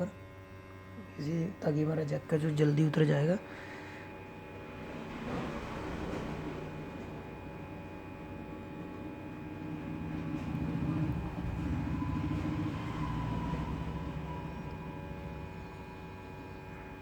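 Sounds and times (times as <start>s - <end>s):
hot-air rework station blowing: 3.3s - 17.0s.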